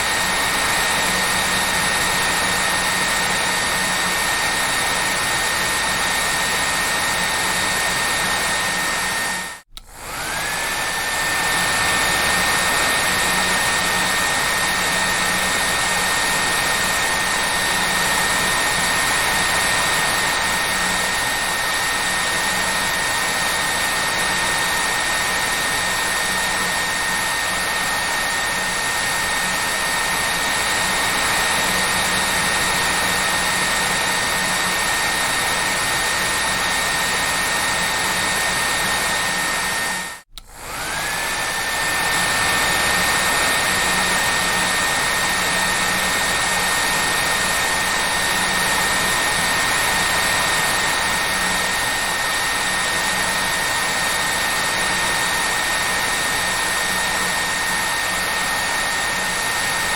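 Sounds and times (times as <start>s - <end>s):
hair dryer whine and rushing air: 0.0s - 59.9s.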